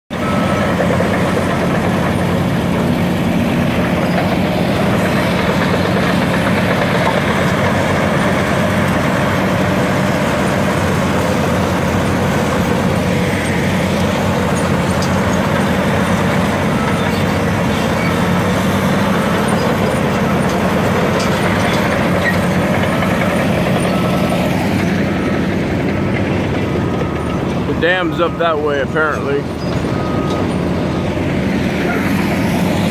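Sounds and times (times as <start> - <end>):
diesel engines running: 0.1 - 32.9.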